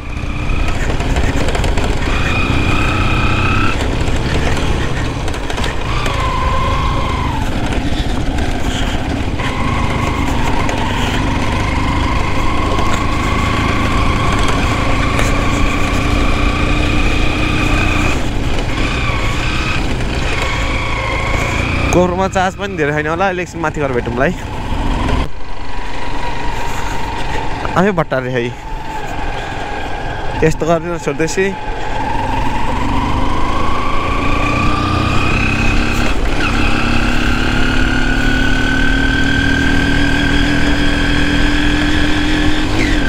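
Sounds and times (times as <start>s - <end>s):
motorcycle engine running: 0.0s - 27.9s, 28.5s - 43.0s.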